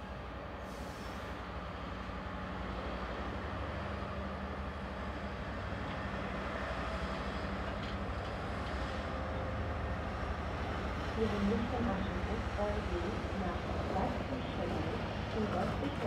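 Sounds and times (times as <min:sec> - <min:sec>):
diesel locomotive engine hum: 0:00.0 - 0:16.0
train rumbling past: 0:00.0 - 0:16.0.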